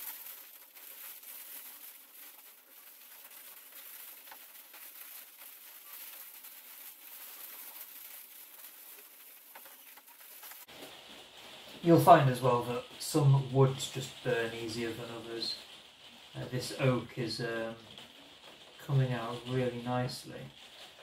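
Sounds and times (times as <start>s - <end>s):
wood-burning pen hissing and scratching: 0.0s - 21.0s.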